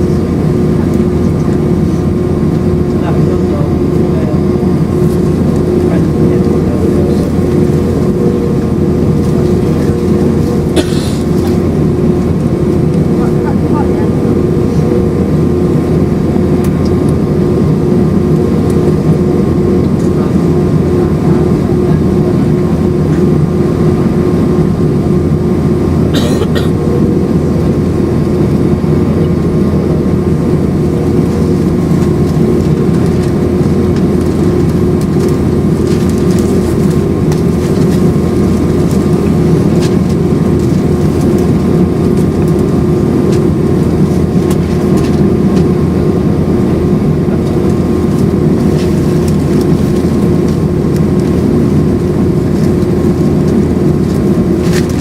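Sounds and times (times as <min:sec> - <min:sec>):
jet engine drone in cabin: 0:00.0 - 0:55.0.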